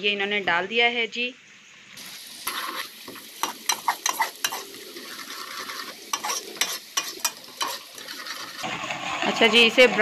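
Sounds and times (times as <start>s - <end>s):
onion sizzling in hot oil: 1.8s - 10.0s.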